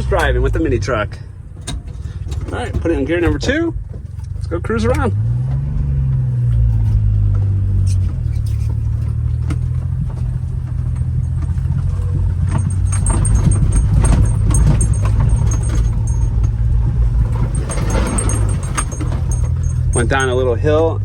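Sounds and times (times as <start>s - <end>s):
cab rattling and jangling: 0.0s - 21.0s
small truck engine drone: 0.0s - 21.0s.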